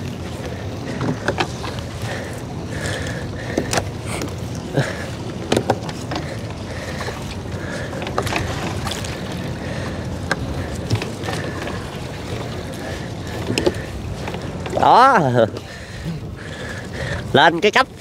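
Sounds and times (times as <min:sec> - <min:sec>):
knocks and clacks on boat: 0:00.0 - 0:18.0
river water washing: 0:00.0 - 0:18.0
wind: 0:00.0 - 0:18.0.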